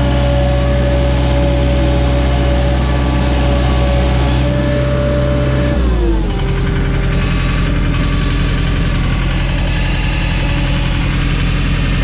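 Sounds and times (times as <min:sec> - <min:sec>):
backhoe engine idling: 0:00.0 - 0:12.0.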